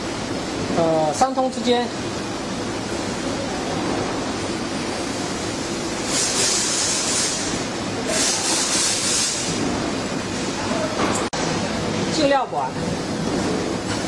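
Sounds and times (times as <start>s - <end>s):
rumbling hiss of background noise: 0.0s - 14.0s.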